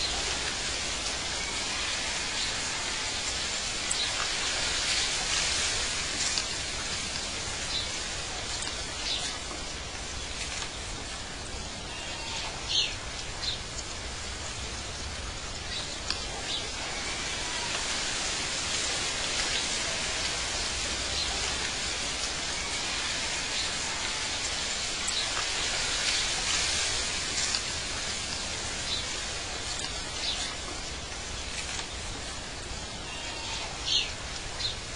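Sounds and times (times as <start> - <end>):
steady rushing hiss: 0.0 - 34.9.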